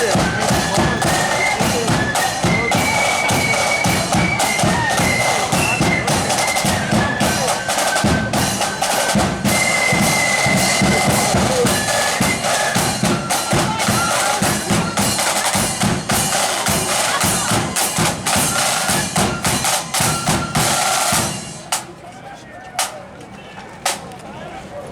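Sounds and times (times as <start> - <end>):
high flute melody: 0.0 - 21.7
snare drums: 0.0 - 22.0, 22.8 - 23.0, 23.8 - 24.0.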